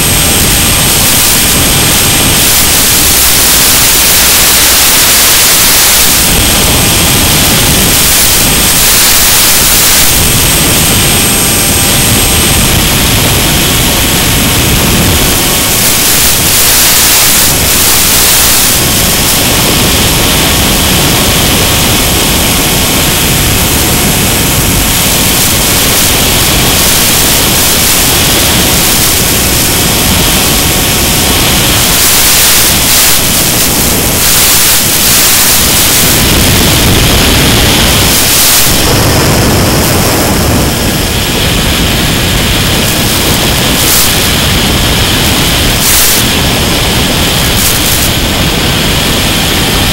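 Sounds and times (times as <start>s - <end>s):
loud static hiss: 0.0s - 49.9s.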